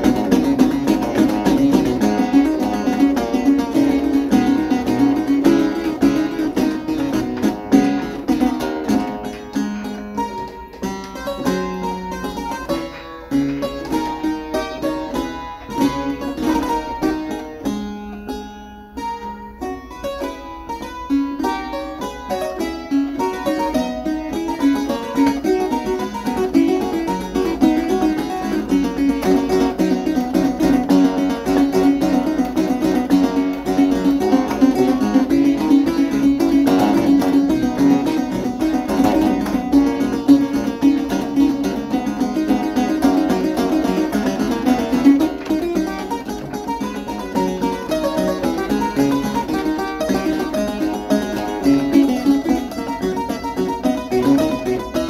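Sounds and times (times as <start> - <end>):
clavichord playing: 0.0 - 55.0.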